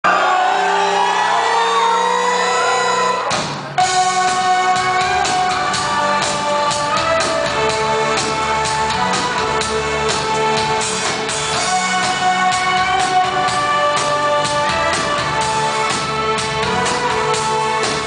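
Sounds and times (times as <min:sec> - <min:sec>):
steady drum beat: 0:03.2 - 0:18.0.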